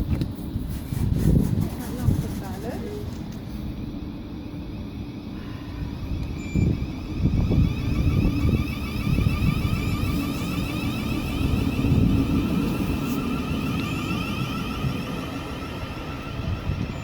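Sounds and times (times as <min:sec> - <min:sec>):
train low rumble: 0:00.0 - 0:17.0
train whine: 0:00.0 - 0:17.0.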